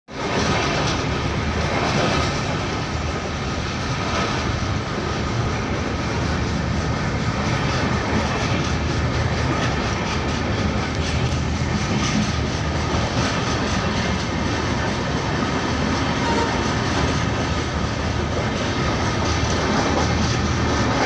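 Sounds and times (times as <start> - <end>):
train rumbling: 0.1 - 21.0
train wheels clattering on rails: 0.1 - 21.0.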